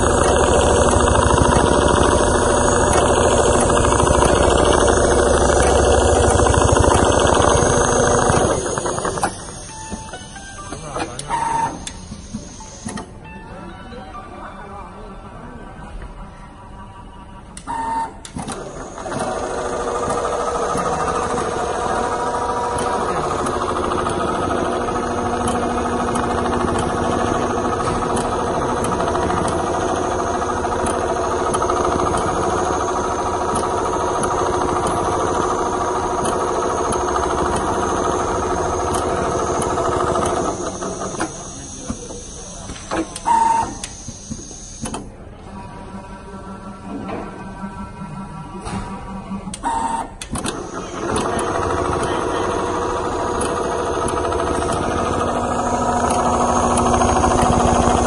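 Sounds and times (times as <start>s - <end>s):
sewing machine stitching: 0.0s - 12.9s, 17.8s - 45.0s, 49.7s - 58.0s.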